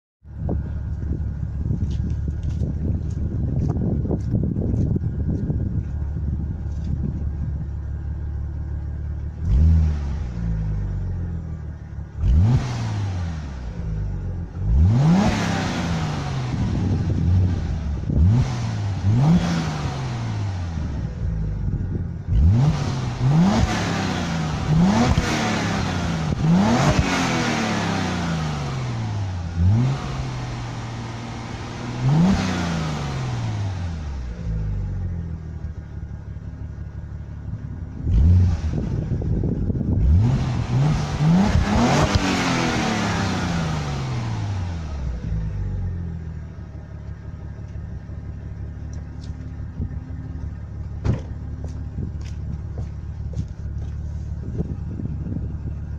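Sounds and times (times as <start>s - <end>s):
car engine revving from idle: 6.7s - 55.9s.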